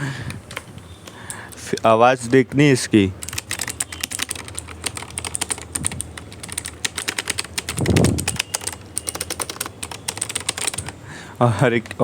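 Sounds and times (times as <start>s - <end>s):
fast keyboard typing clicks: 0.0s - 11.0s.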